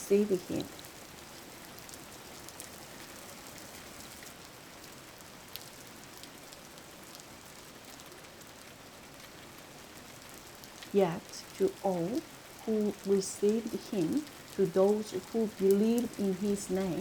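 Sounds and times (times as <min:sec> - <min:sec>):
raindrop ticks: 0:00.0 - 0:17.0
steady rain falling: 0:00.0 - 0:17.0.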